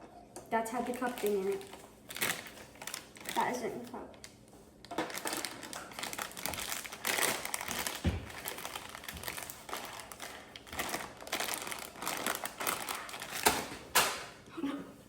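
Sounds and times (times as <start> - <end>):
packaging crinkling and rustling: 0.7 - 14.4.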